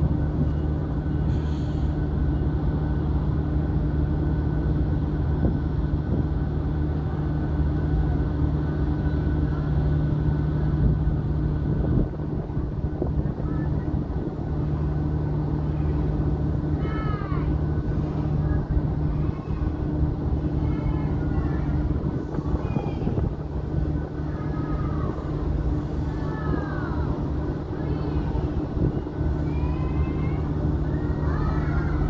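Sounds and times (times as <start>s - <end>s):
train engine hum and rumble: 0.0s - 32.0s.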